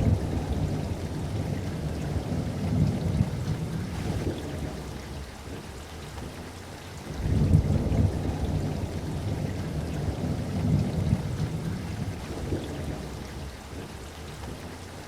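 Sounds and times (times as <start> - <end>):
rolling thunder: 0.0 - 5.7, 7.1 - 14.6
steady rain: 0.0 - 15.0.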